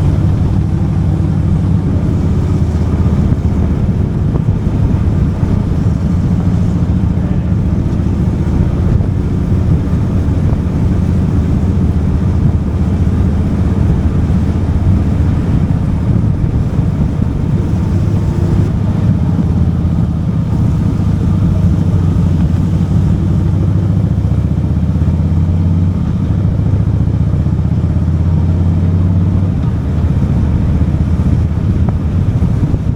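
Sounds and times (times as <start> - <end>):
motorcycle engine cruising: 0.0 - 32.9.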